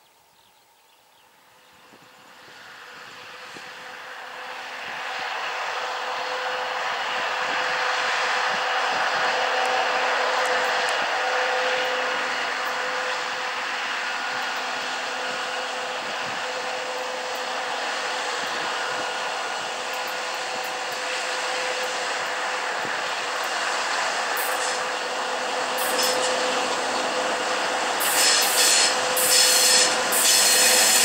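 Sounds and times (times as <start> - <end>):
diesel locomotive running under load: 1.2 - 31.0.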